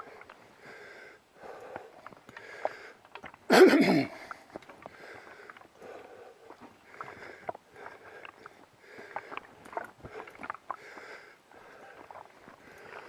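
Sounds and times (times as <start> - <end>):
footsteps on forest trail: 0.0 - 13.0
person breathing hard: 0.0 - 13.0.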